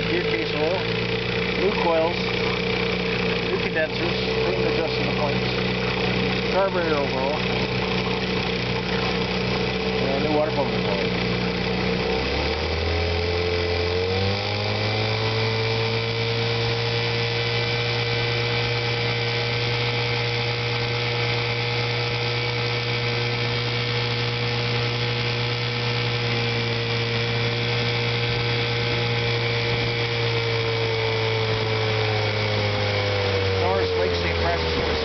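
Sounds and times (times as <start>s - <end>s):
outboard motor whining: 0.0s - 35.0s.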